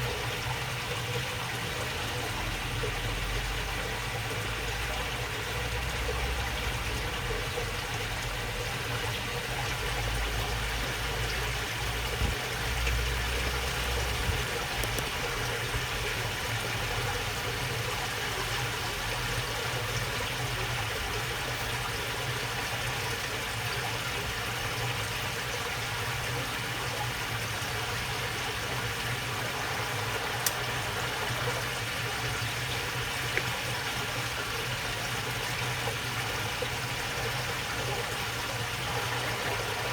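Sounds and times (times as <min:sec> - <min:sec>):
shallow water babbling: 0:00.0 - 0:39.9.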